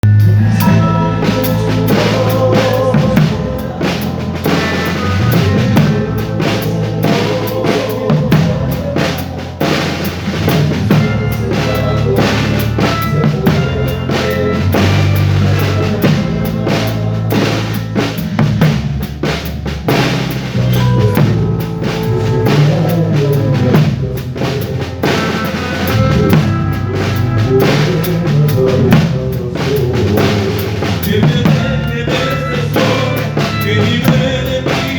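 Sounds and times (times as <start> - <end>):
bass line: 0.0 - 34.9
drum kit beat: 0.0 - 34.9
rock band playing: 0.0 - 34.9.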